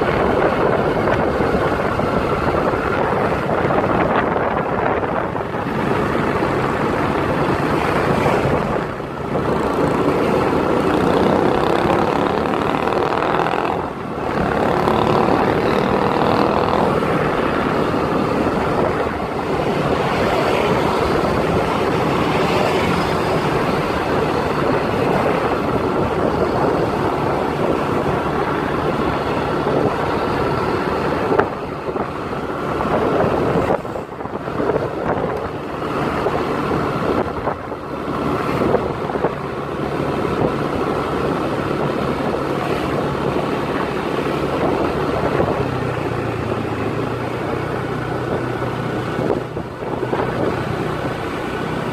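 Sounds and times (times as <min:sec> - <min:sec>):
vehicle engine running: 0:00.0 - 0:51.9
wind noise on microphone: 0:00.0 - 0:51.9.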